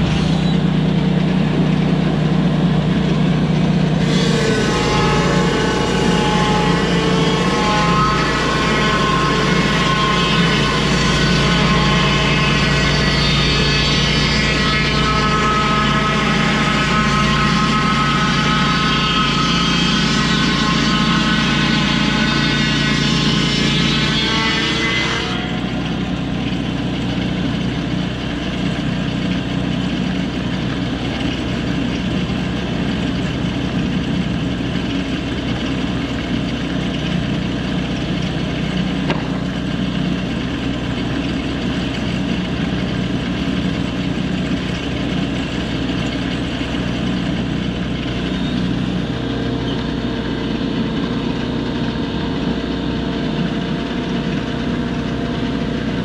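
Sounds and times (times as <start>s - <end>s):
circular saw blade cutting log: 0.0s - 56.0s
sawmill engine running: 0.0s - 56.0s.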